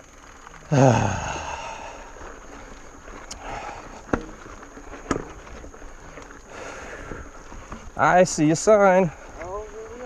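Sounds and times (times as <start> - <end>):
mountain bike tyre and drivetrain noise: 0.0 - 10.0.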